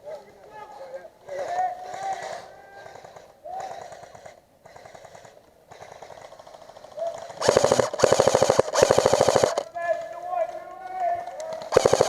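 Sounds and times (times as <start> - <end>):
airsoft rifle full-auto clacks: 1.4 - 12.0.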